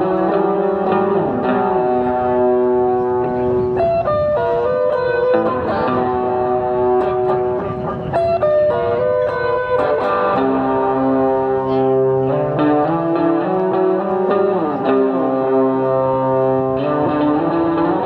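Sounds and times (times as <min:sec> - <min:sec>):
electric guitar notes ringing: 0:00.0 - 0:18.0.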